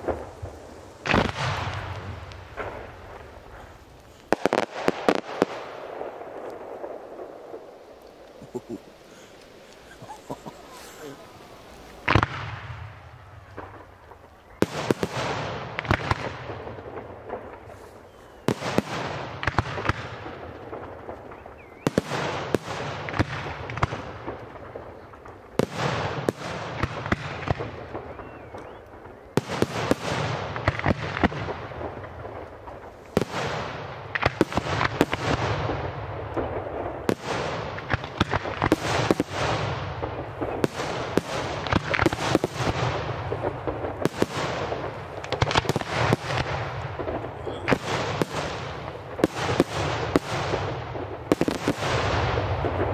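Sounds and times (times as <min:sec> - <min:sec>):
crackling pops: 0:00.0 - 0:52.9.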